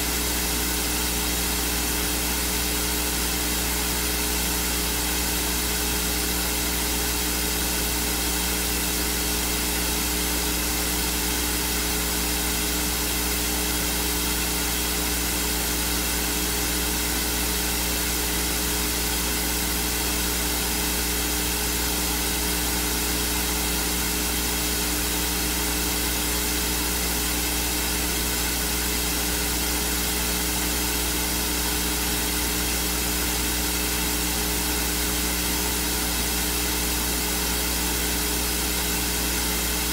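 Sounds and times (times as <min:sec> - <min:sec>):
steady loud hiss: 0:00.0 - 0:39.9.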